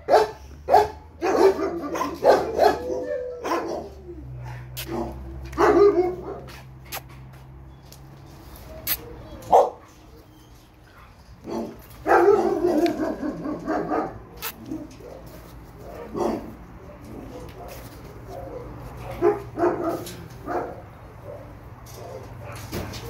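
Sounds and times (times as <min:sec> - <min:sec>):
dogs barking: 0:00.0 - 0:06.8, 0:08.6 - 0:10.2, 0:11.0 - 0:23.0.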